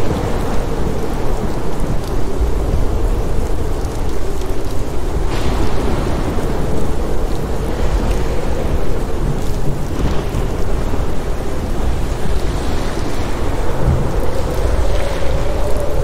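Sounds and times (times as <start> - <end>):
deep rumble: 0.0 - 16.0
steady rain falling: 0.0 - 16.0.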